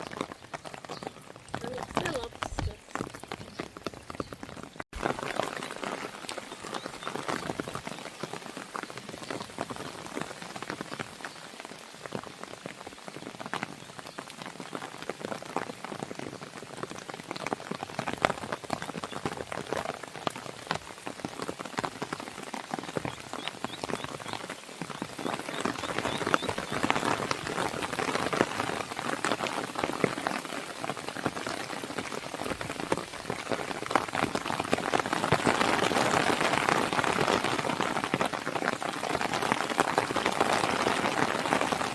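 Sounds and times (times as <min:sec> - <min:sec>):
rain on a window: 0:00.0 - 0:41.9.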